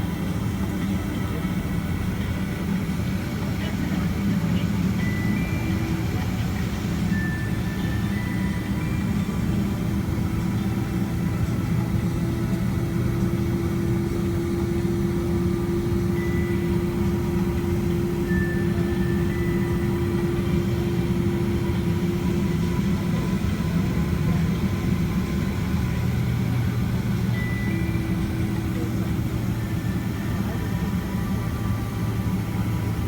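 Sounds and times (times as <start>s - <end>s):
jet engine hum inside cabin: 0.0s - 33.0s.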